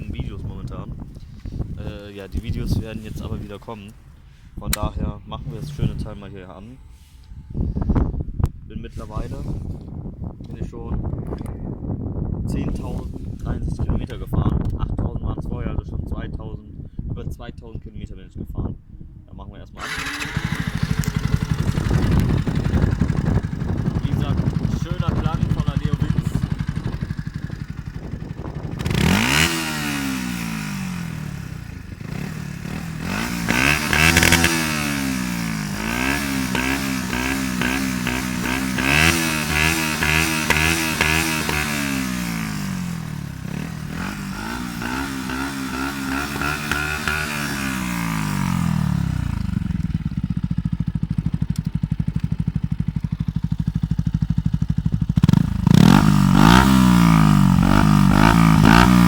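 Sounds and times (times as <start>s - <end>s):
motorcycle engine revving: 0.0s - 8.2s, 19.8s - 59.0s
motorcycle engine idling: 0.0s - 8.4s, 19.8s - 59.0s.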